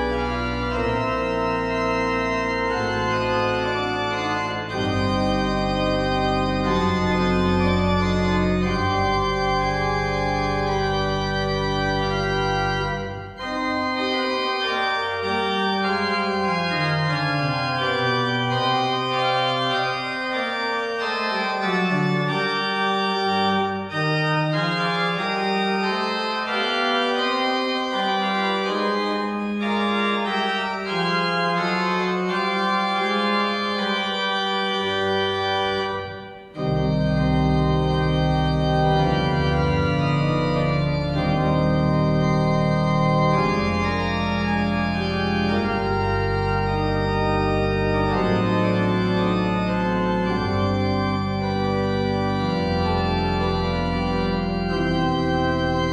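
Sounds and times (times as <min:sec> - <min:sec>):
deep organ bass notes: 0:00.0 - 0:55.9
organ playing slow chords: 0:00.0 - 0:55.9.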